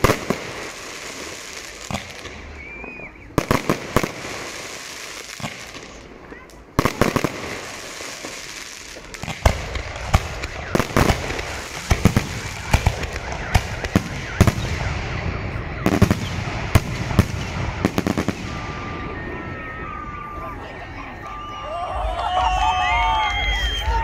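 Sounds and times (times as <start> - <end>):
firework bangs: 0.0 - 20.7
firework crackle: 0.0 - 24.0.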